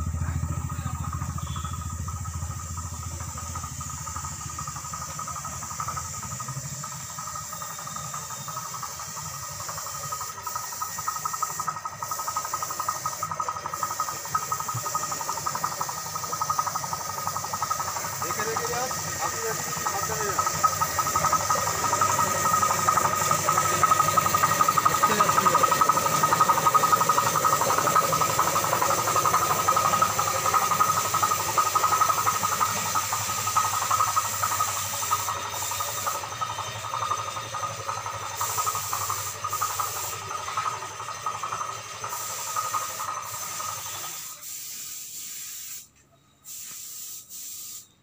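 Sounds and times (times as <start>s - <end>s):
constant high hum: 0.0s - 42.1s
steady hiss: 0.0s - 48.0s.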